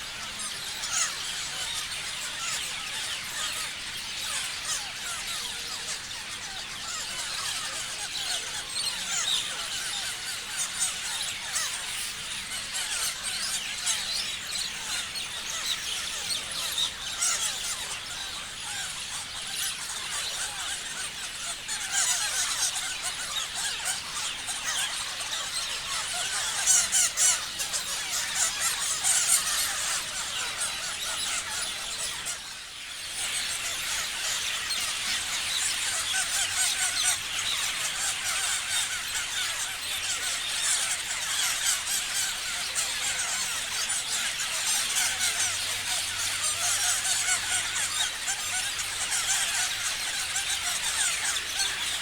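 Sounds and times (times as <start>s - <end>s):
parrots chirping and calling: 0.0s - 52.0s.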